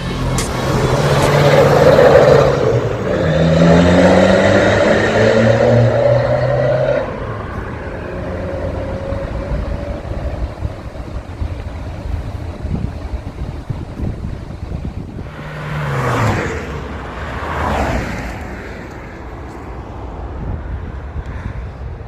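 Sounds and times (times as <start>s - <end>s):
diesel exhaust revving: 0.0s - 17.7s.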